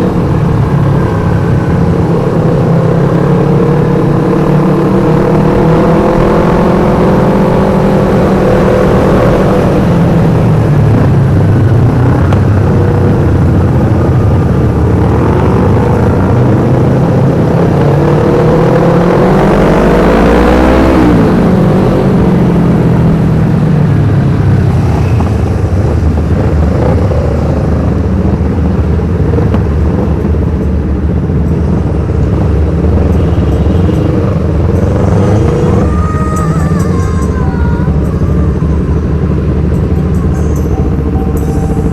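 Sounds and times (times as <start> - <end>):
loud motorcycle engine revving: 0.0 - 30.5, 31.1 - 40.1.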